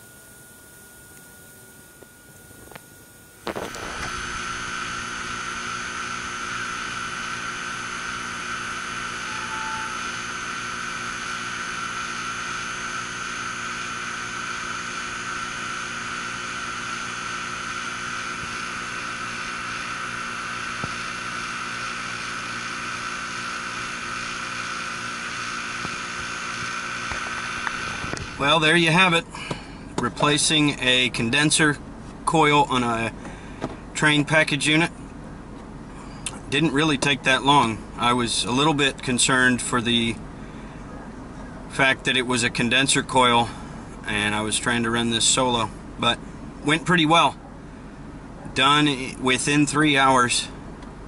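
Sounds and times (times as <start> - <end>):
air conditioning unit humming: 0.0 - 51.0.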